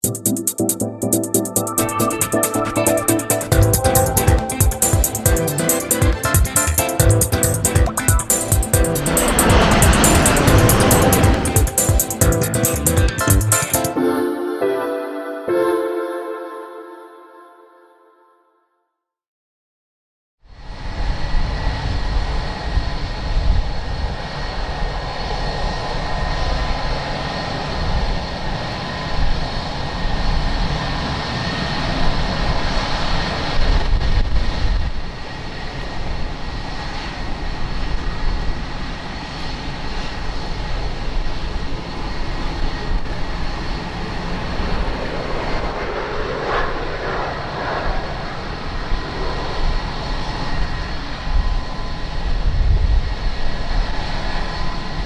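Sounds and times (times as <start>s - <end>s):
airliner engines running: 0.0s - 16.0s, 20.6s - 55.0s.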